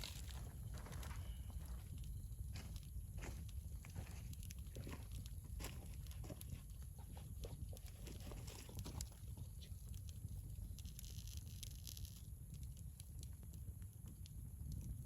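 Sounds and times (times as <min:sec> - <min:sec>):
campfire crackling and popping: 0:00.0 - 0:07.8, 0:09.0 - 0:15.0.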